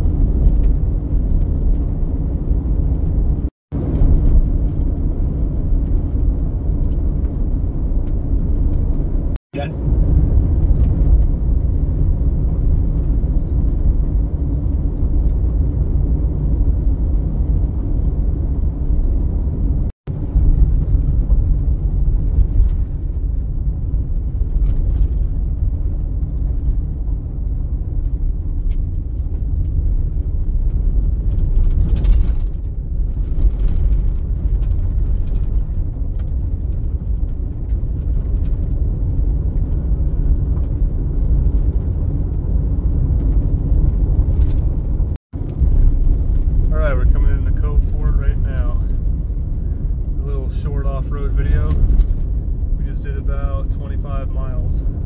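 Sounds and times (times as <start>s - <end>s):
tyres on gravel road: 0.0s - 55.0s
vehicle engine: 0.0s - 55.0s.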